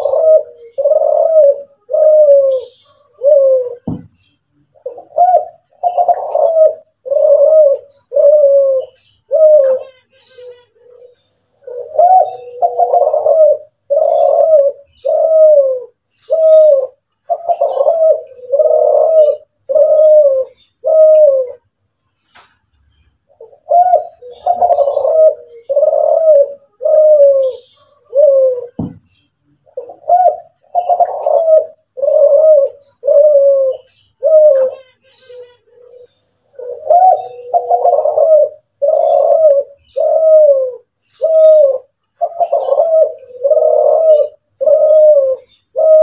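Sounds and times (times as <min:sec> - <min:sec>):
dove cooing: 0:00.0 - 0:21.7, 0:23.3 - 0:46.0
faint high bird chirps: 0:00.0 - 0:46.0.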